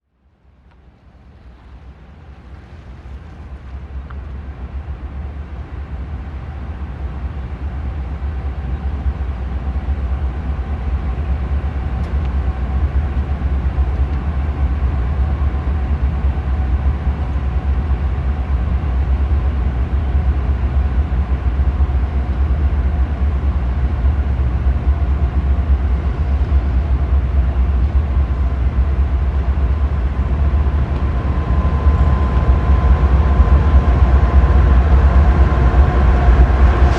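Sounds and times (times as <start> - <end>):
diesel locomotives rumbling: 0.4 - 36.9.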